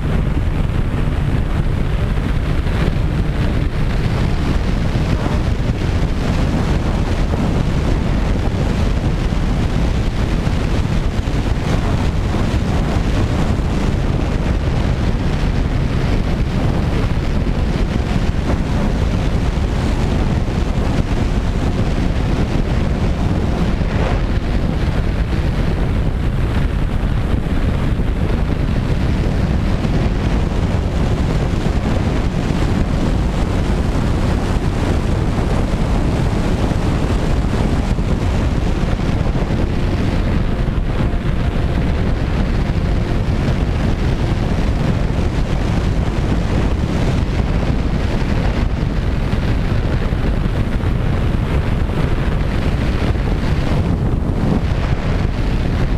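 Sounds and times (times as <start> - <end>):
faint propeller hum: 0.0 - 55.9
wind buffeting microphone: 0.0 - 55.9.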